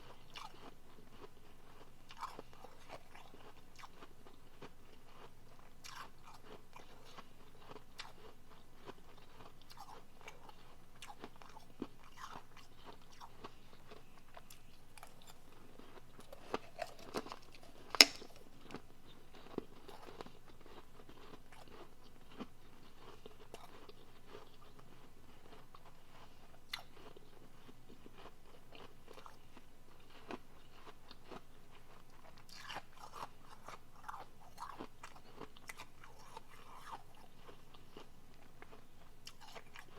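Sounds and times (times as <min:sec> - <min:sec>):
chewing ice crunches: 0:00.0 - 0:39.9.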